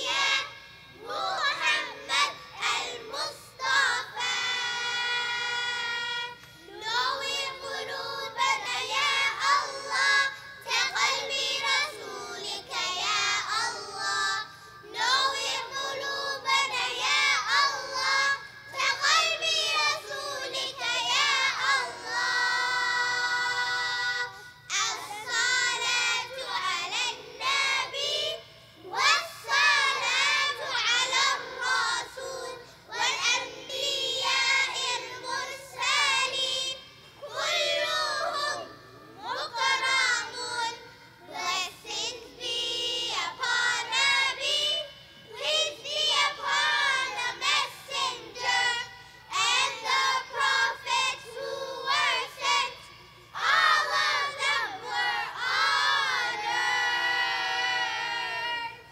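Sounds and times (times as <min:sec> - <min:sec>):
child chanting melodically: 0:00.0 - 0:58.9.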